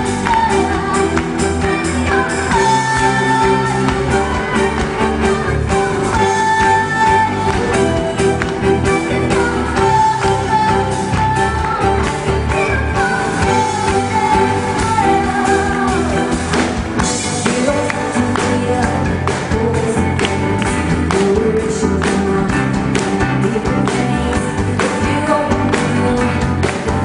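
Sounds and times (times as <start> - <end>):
pop song with singing: 0.0 - 27.0.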